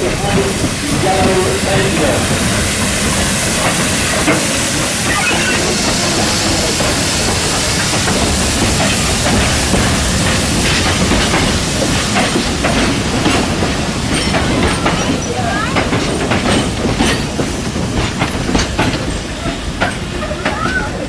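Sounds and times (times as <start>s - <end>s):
steam locomotive hissing steam: 0.0s - 21.0s.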